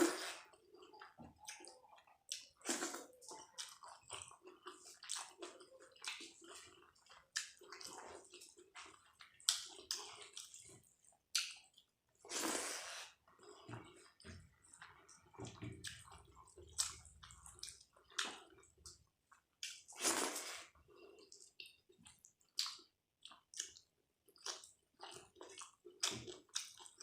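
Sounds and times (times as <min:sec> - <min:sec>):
wet chewing: 0:00.0 - 0:27.0.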